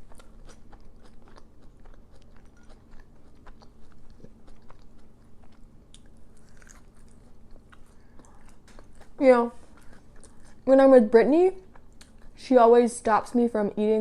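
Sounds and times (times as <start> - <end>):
person chewing crispy food: 0.0 - 10.7, 11.6 - 12.4.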